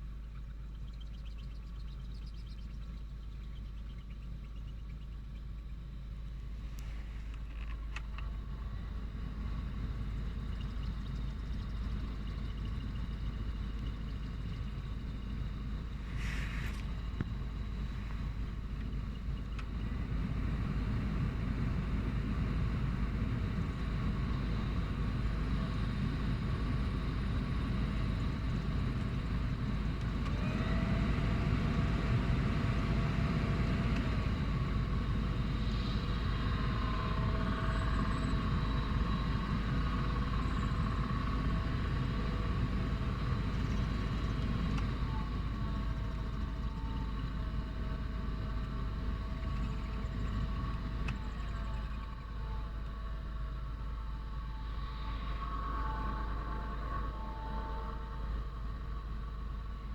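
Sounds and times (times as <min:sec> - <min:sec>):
electric fan motor whistling and grinding: 0:00.0 - 0:59.9.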